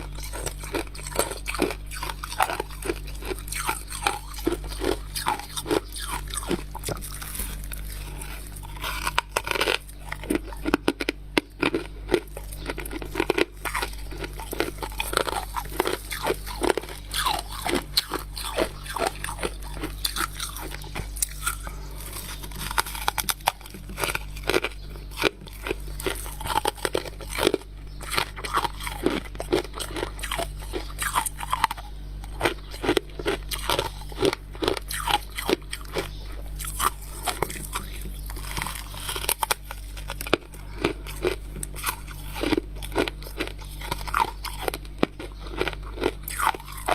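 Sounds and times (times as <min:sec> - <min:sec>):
chewing crunchy frost: 0:00.0 - 0:46.9
steady low hum: 0:00.0 - 0:46.9.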